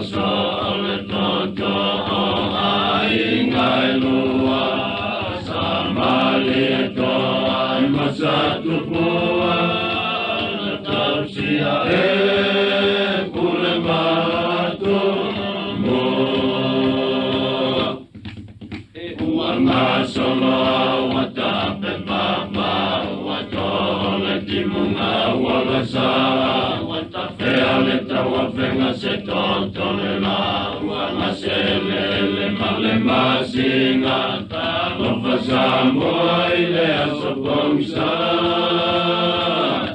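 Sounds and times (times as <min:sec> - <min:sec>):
group singing chant-like song: 0:00.0 - 0:18.2, 0:19.0 - 0:39.9.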